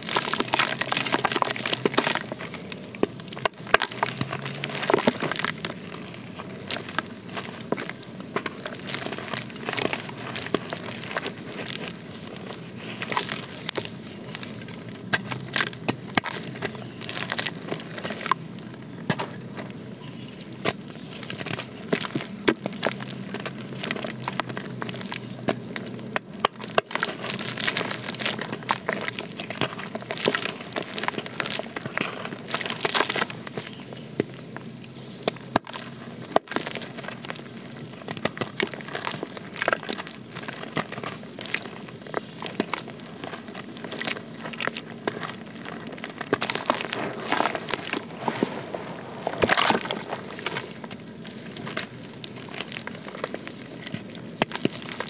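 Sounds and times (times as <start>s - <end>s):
dirt blocks crunching: 0.0s - 55.0s.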